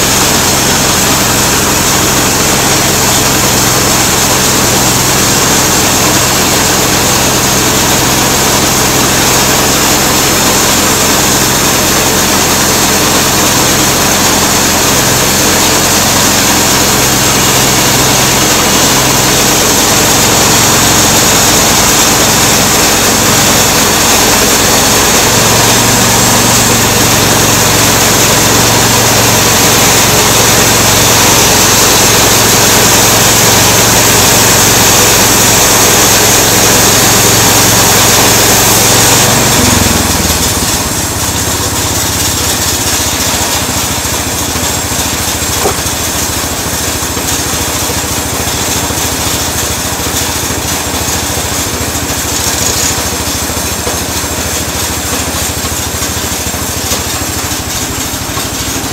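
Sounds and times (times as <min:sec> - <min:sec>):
bandsaw blade sawing log: 0:00.0 - 0:58.9
small engine running under load: 0:00.0 - 0:58.9.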